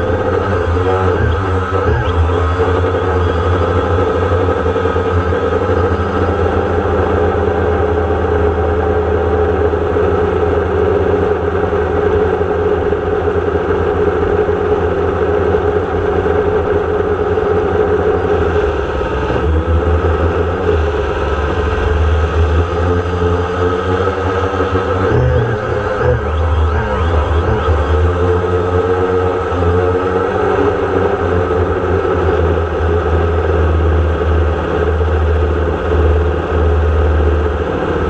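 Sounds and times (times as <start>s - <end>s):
drone propellers buzzing: 0.0s - 38.0s.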